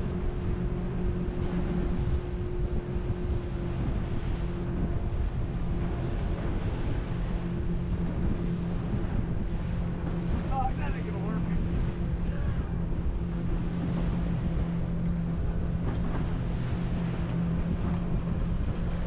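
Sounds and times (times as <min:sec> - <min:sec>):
boat engine hum: 0:00.0 - 0:19.0
water splashing against hull: 0:00.0 - 0:19.0
wind buffeting microphone: 0:00.0 - 0:19.0.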